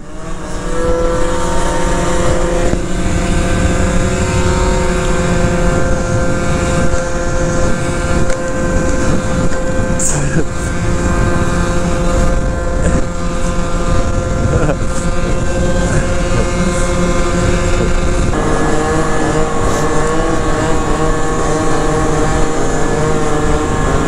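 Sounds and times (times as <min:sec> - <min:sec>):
scooter engine running: 0:00.0 - 0:24.0
wind rushing: 0:01.4 - 0:24.0.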